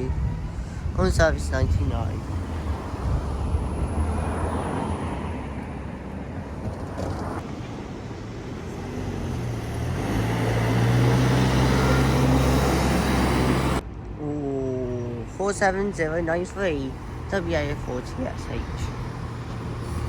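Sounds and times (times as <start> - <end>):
bus engine low hum: 0.0 - 20.0
bus passing: 1.9 - 13.8, 15.2 - 20.0.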